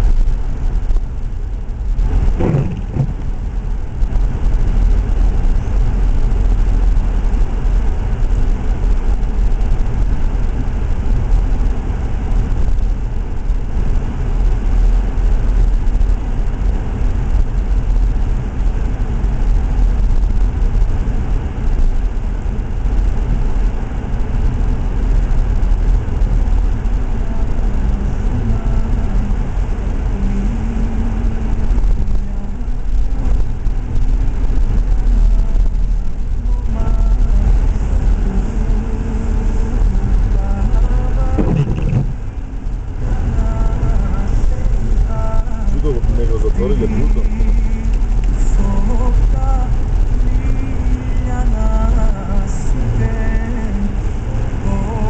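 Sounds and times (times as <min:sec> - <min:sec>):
car driving on snowy road: 0:00.0 - 0:55.0.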